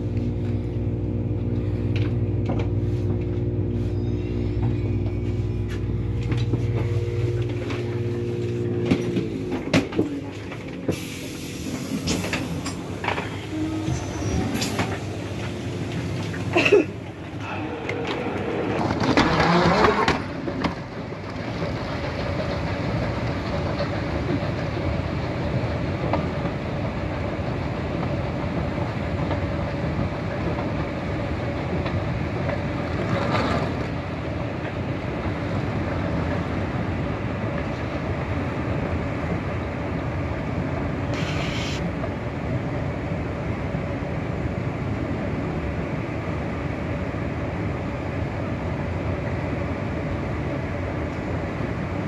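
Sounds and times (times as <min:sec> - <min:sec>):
moving walkway rumbling hum: 0:00.0 - 0:52.0.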